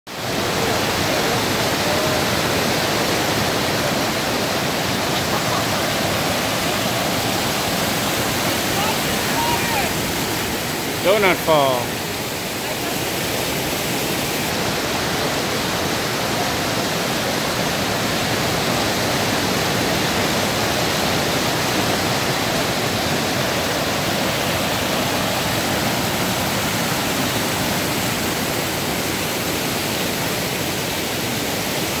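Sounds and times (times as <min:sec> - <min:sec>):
creek rushing over boulders: 0:00.1 - 0:32.0.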